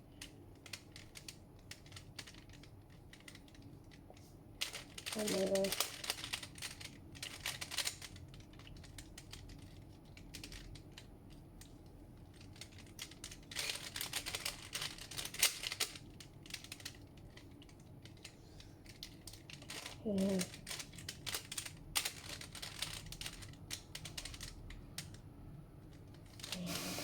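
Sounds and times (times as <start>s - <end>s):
plastic puzzle cube clicking: 0.2s - 3.7s, 4.6s - 11.4s, 12.3s - 25.2s.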